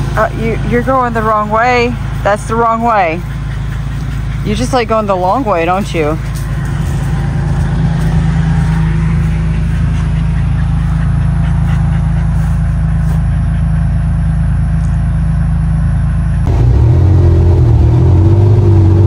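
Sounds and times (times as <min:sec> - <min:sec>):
utility vehicle engine idling: 0:00.0 - 0:19.0.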